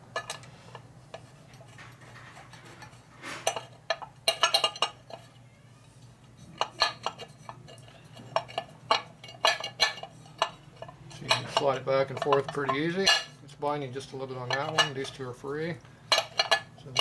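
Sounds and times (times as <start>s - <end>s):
steel engine parts clinking: 0.0s - 5.4s, 6.0s - 17.0s.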